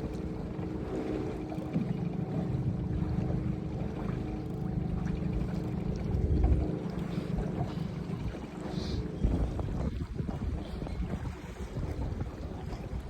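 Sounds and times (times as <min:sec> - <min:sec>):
boat motor running: 0:00.0 - 0:13.0
low rumble: 0:00.0 - 0:13.0
wind buffeting microphone: 0:00.0 - 0:13.0.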